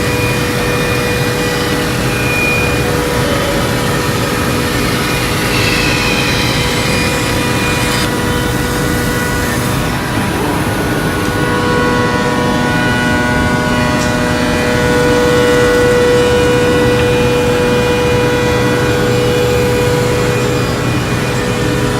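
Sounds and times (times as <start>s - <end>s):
scroll saw whining and chattering: 0.0s - 21.9s.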